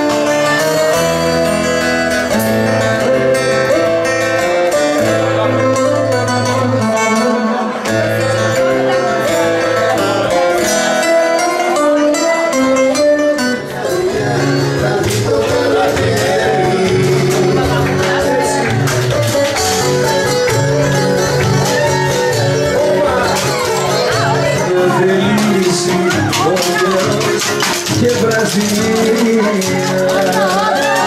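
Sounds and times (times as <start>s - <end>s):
plucked-string melody: 0.0s - 31.0s.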